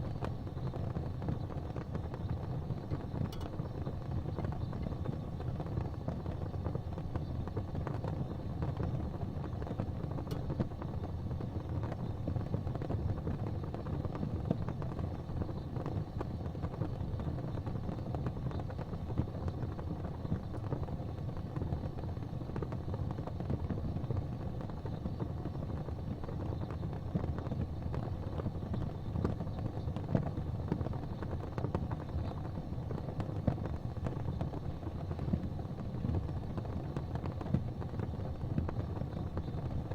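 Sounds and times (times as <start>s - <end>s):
faint crackles: 0.0s - 39.9s
gas fireplace flame rumbling: 0.0s - 39.9s.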